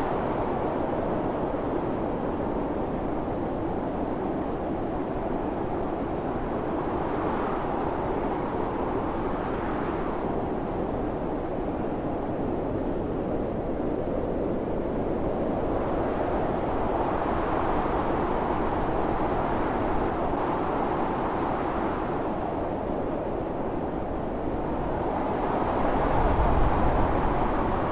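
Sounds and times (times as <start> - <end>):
blizzard wind blowing: 0.0 - 27.9.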